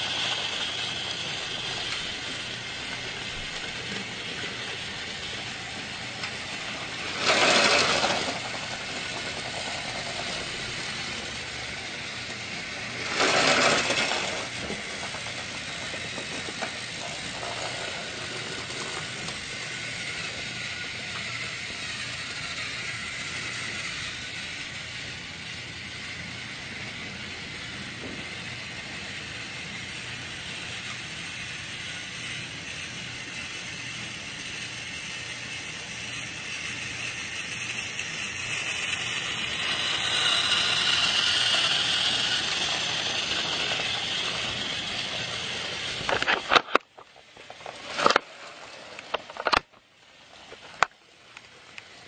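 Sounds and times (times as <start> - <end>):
toy train motor whirring: 0.0 - 52.0.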